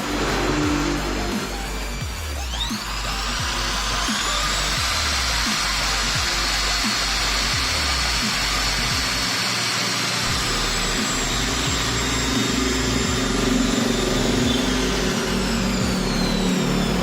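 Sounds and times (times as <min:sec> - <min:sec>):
angle grinder motor whining: 0:00.0 - 0:17.0.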